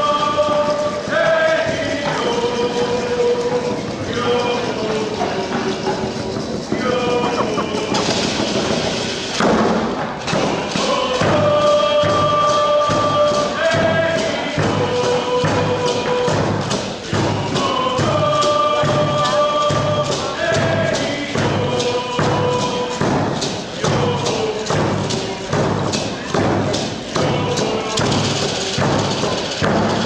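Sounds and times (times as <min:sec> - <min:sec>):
group singing: 0:00.0 - 0:09.4, 0:10.2 - 0:30.0
drum beating steady pulse: 0:00.0 - 0:30.0.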